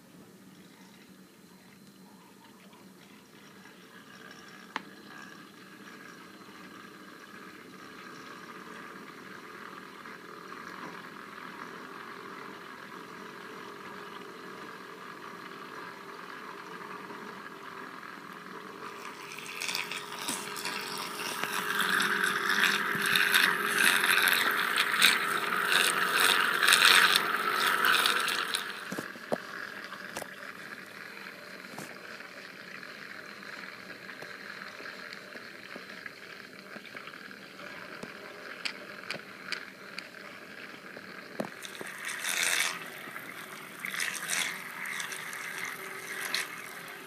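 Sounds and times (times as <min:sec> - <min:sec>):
small motor whirring: 0:00.6 - 0:47.0.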